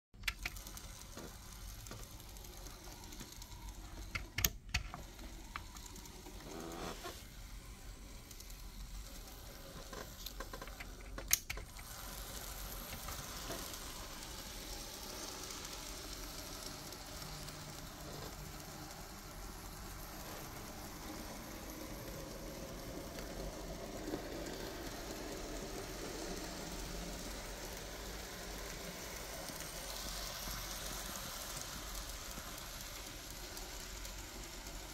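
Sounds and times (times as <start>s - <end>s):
model train motor whirring: 0.2s - 34.9s.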